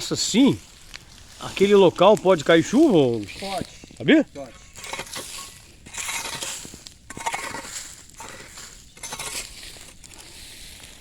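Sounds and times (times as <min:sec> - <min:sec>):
dry leaves crunching: 0:00.0 - 0:11.0.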